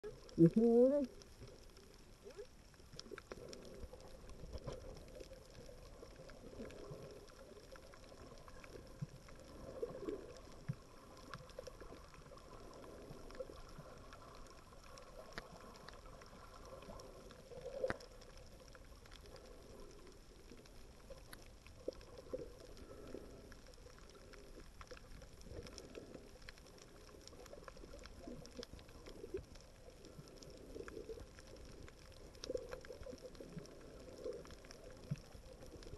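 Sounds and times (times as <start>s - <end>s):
underwater moving water gurgling: 0.0s - 35.9s.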